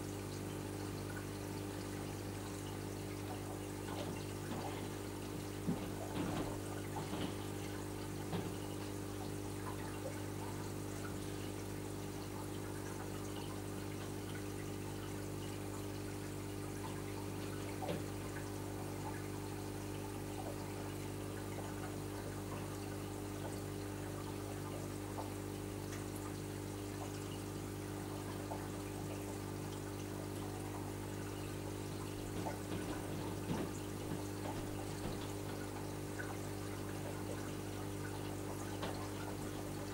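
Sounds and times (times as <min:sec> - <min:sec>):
water pumps humming: 0:00.0 - 0:39.9
water trickling and splashing: 0:00.0 - 0:39.9.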